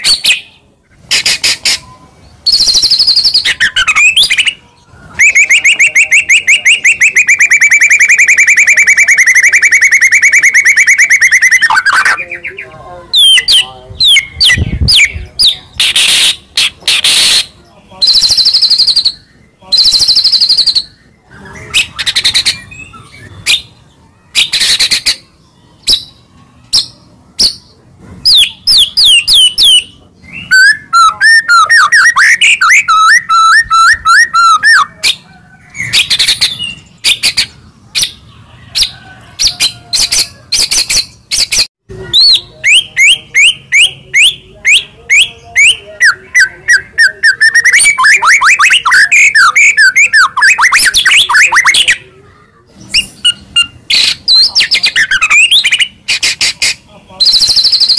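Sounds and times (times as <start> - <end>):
songbird whistling and trilling: 0.0 - 52.0, 52.8 - 57.9.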